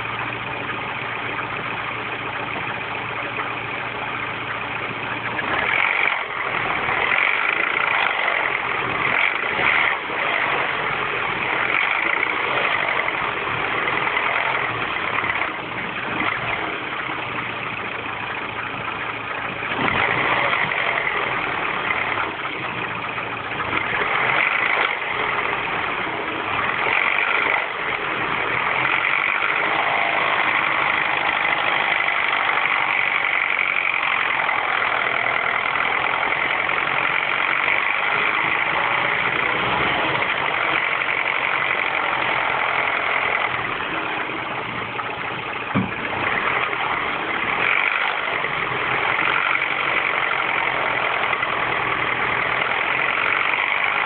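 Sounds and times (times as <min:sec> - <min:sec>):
car engine idling: 0:00.0 - 0:54.0
high-pitched engine noise: 0:00.0 - 0:54.0.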